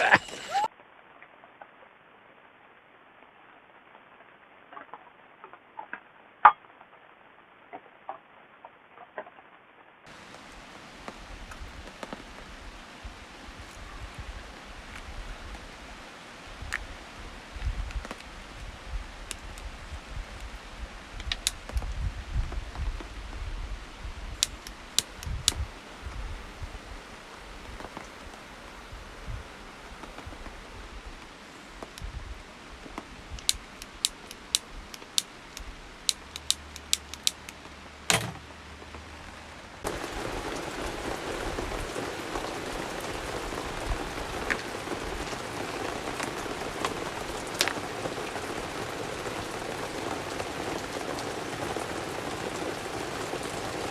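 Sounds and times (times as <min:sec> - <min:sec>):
rain falling on shelter: 0:00.0 - 0:08.9, 0:10.0 - 0:53.9.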